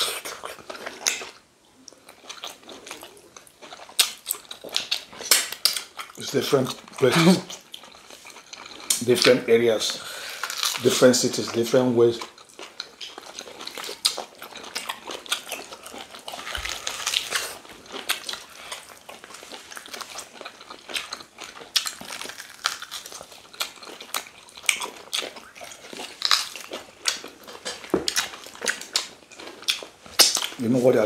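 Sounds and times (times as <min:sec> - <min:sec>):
people chewing meat: 0:00.0 - 0:31.0.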